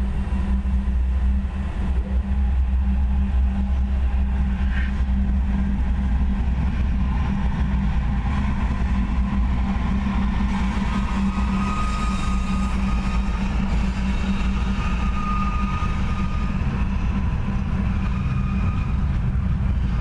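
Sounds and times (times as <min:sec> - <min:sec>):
diesel locomotive engine rumble: 0:00.0 - 0:20.0.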